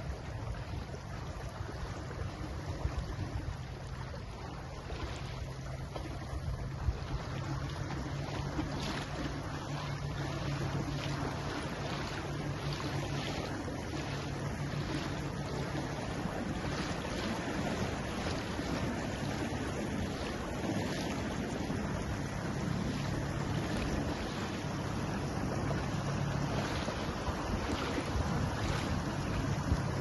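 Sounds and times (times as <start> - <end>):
water rushing along hull: 0.0 - 30.0
wind buffeting microphone: 0.0 - 30.0.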